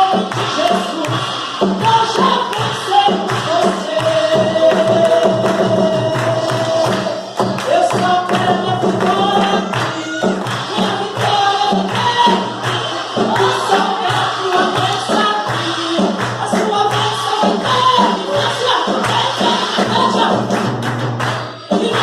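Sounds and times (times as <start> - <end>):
band playing: 0.0 - 22.0
fast percussion beat: 0.0 - 22.0
worship singing: 0.0 - 22.0.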